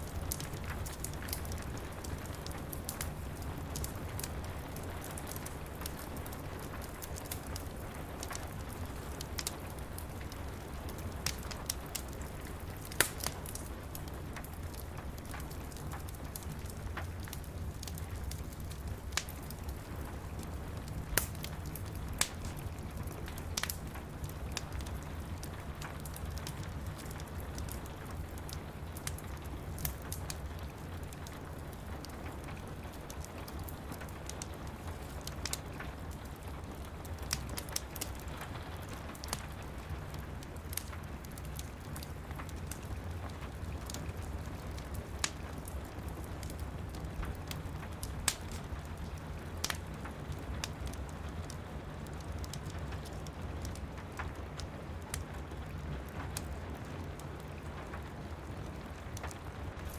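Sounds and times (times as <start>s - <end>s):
steady rain: 0.0s - 59.9s
wood fire crackling and popping: 0.0s - 59.9s.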